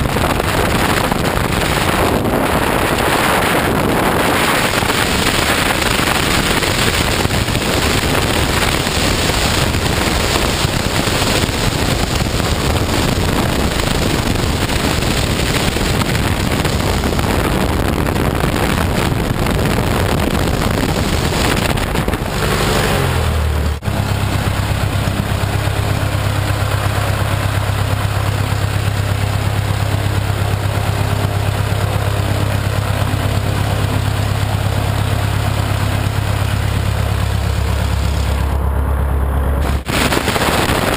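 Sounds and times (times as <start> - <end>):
aircraft engine running: 0.0 - 40.9
propeller blast on microphone: 0.0 - 40.9.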